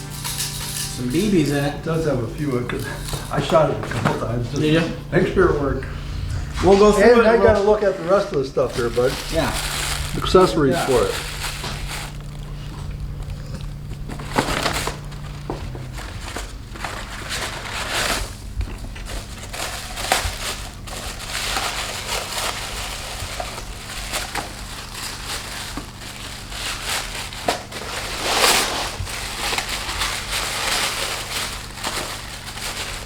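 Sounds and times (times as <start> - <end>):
packaging crinkling and rustling: 0.0 - 33.0.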